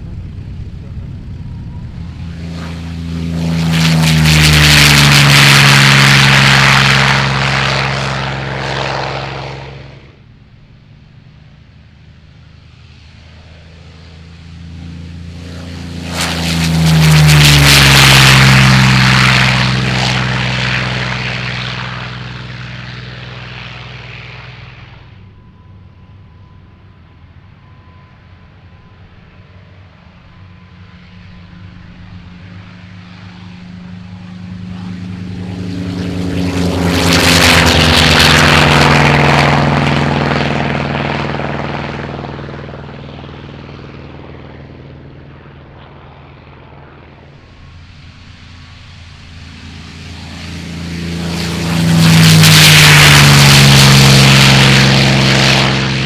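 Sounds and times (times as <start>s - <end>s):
engine with faint whine: 0.0s - 56.0s
propeller aircraft passing: 0.0s - 56.0s.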